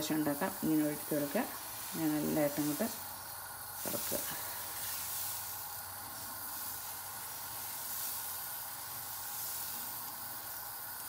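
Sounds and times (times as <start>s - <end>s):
batter sizzling on a hot pan: 0.0s - 11.0s.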